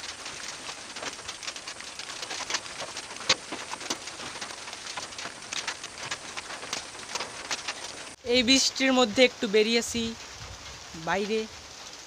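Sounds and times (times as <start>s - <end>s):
raindrops tapping: 0.0s - 12.0s.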